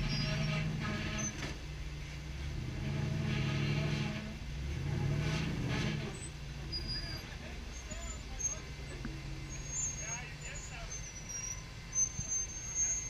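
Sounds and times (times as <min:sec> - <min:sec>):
buggy engine revving under load: 0:00.0 - 0:13.0.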